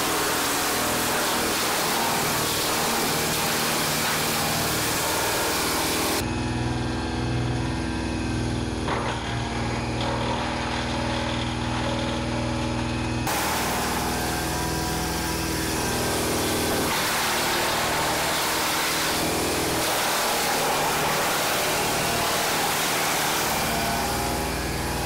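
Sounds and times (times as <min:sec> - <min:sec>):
engine hum: 0:00.0 - 0:25.0
wood chipper running: 0:00.0 - 0:25.0.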